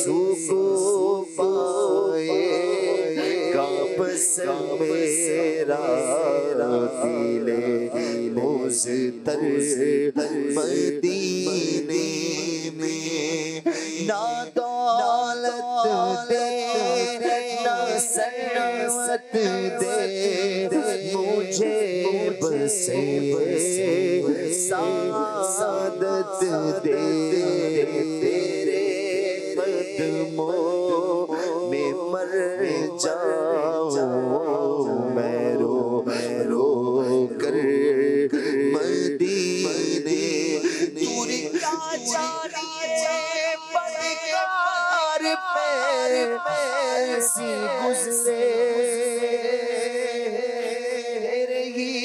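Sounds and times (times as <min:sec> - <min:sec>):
men singing unaccompanied: 0:00.0 - 0:50.8.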